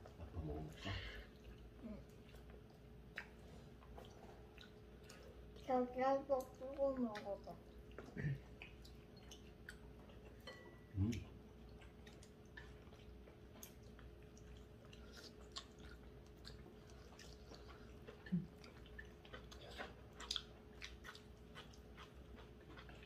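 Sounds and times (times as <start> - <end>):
people chewing: 0.0 - 23.0.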